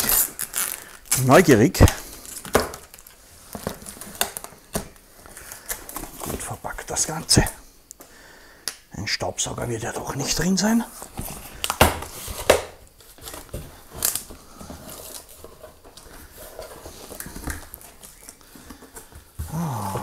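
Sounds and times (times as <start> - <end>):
paper and plastic packing rustling: 0.0 - 7.6, 10.1 - 20.0.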